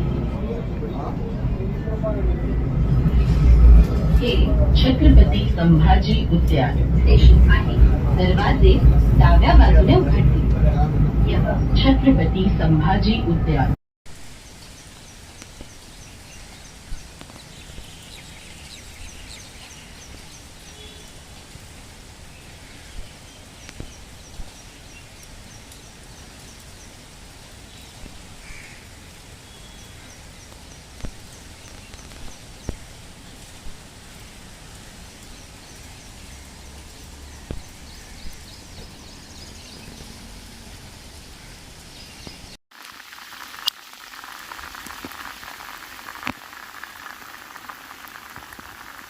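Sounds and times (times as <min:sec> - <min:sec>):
heavy rain hiss: 0:00.0 - 0:49.0.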